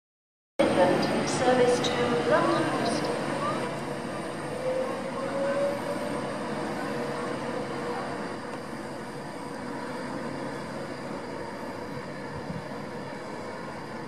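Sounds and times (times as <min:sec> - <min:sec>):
electric train rumbling: 0:00.6 - 0:14.0
faint train whine: 0:00.6 - 0:14.0.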